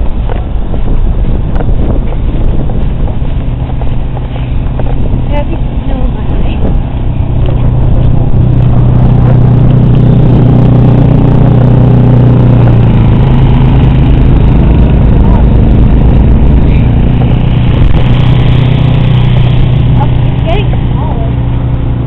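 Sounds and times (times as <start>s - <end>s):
snowblower engine running: 0.2s - 22.0s.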